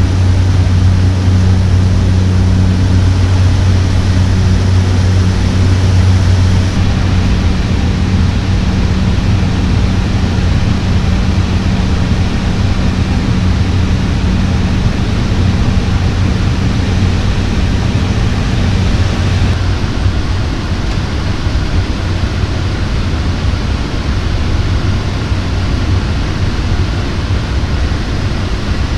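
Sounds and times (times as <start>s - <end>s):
turboprop engine and propeller: 0.0s - 28.9s.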